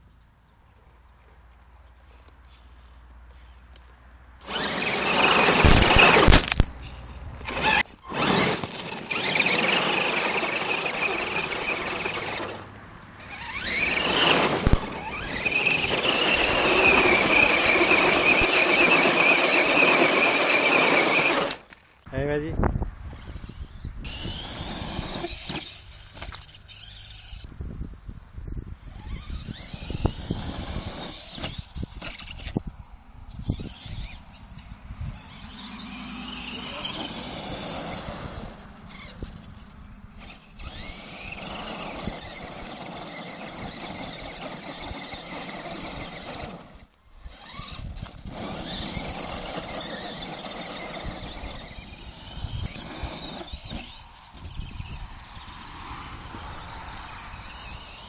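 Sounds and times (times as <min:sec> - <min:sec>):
toy truck motor whining: 0:04.4 - 0:21.8, 0:22.6 - 0:58.0.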